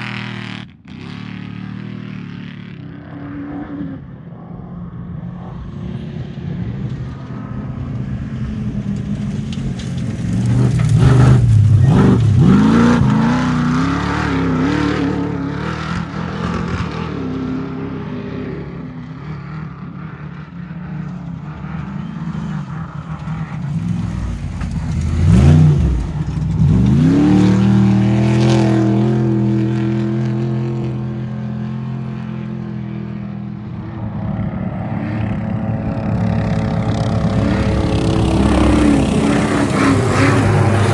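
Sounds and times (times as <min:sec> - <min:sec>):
trucks racing past revving: 0:00.0 - 0:40.9.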